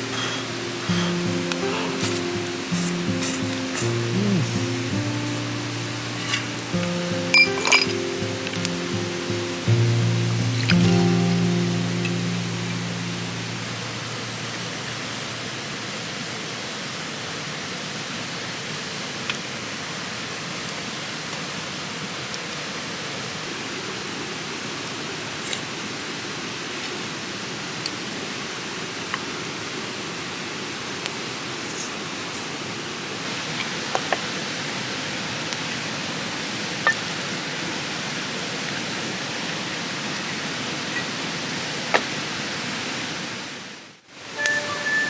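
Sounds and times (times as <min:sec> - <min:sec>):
mountain stream rushing: 0:00.0 - 0:45.0.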